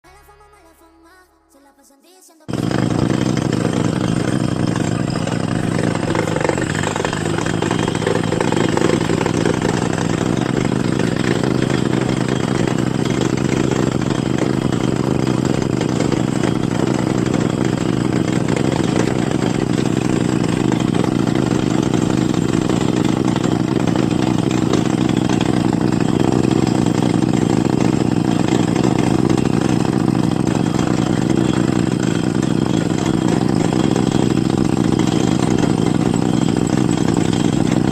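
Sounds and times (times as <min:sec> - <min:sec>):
rock drilling machine drone: 0:02.5 - 0:37.9.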